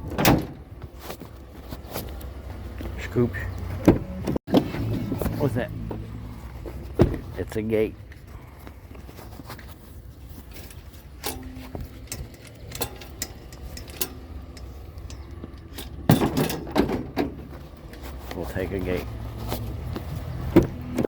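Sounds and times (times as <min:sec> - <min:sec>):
clunks and rattles: 0:00.0 - 0:07.4, 0:08.0 - 0:18.4, 0:19.1 - 0:21.0
vehicle idling hum: 0:00.6 - 0:21.0.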